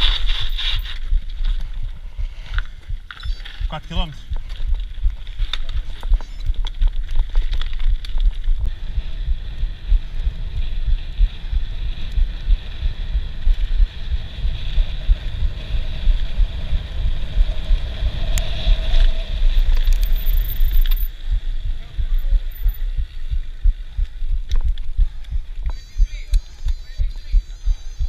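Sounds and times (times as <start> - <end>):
wind buffeting microphone: 0.0 - 26.3.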